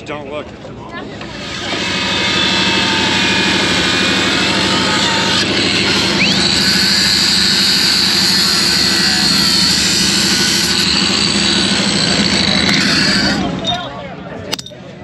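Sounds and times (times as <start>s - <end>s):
motor high-pitched whine: 1.2s - 13.7s.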